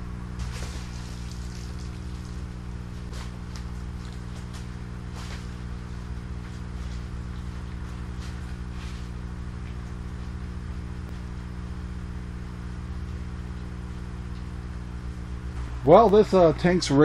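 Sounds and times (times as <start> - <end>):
air pumps humming: 0.0 - 17.0.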